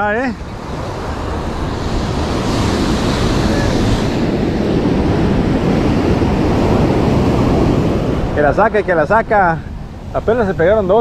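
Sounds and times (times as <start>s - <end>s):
ocean surf washing up: 0.0s - 11.0s
wind buffeting microphone: 0.0s - 11.0s.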